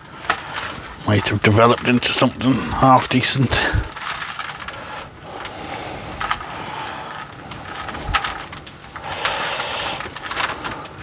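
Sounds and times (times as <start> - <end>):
rake scraping through roots: 0.0 - 11.0
soil crumbling: 0.0 - 11.0.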